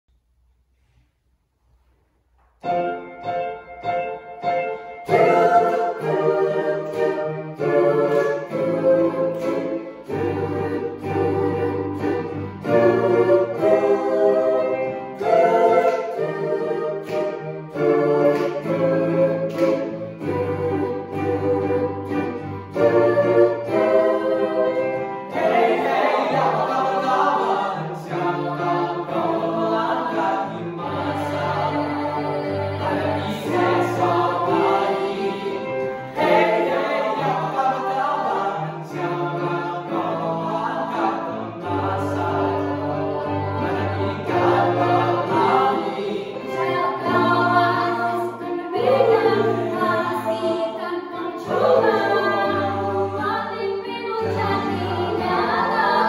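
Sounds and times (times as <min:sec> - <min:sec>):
youth choir singing: 0:04.0 - 0:56.0.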